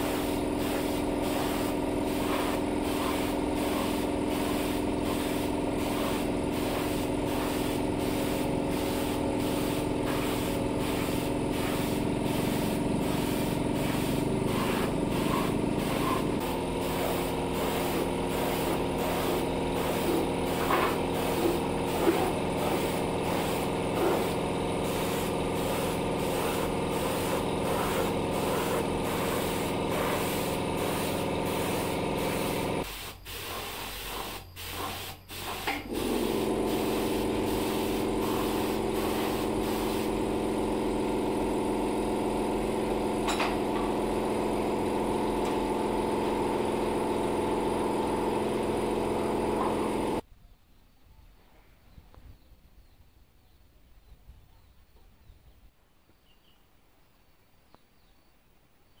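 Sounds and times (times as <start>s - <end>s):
air compressor running: 0.0s - 50.2s
spray gun hissing: 0.0s - 50.2s.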